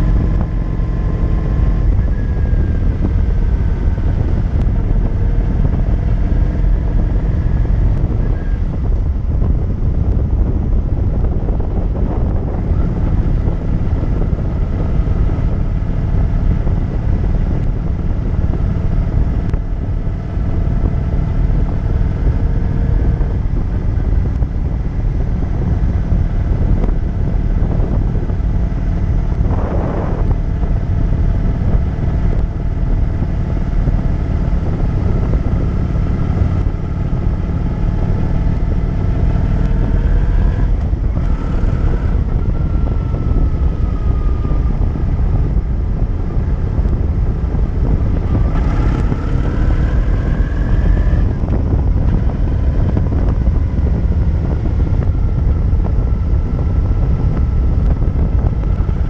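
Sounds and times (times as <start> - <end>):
motorcycle engine cruising: 0.0 - 59.0
wind rumble on microphone: 0.0 - 59.0.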